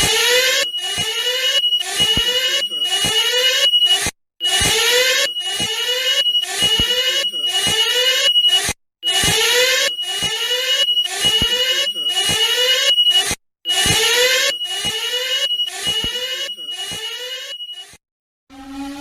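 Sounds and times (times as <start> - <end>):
high-pitched beep: 0.0 - 18.0
rising sweeping alarm tones: 0.0 - 19.0.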